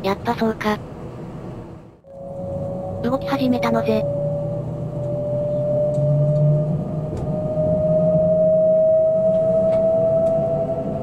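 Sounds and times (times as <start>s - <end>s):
low train rumble: 0.0s - 11.0s
electric train motor whine: 2.0s - 11.0s.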